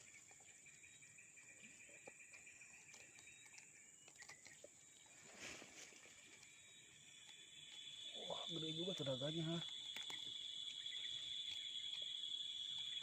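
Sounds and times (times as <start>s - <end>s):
faint insect drone: 0.0s - 13.0s.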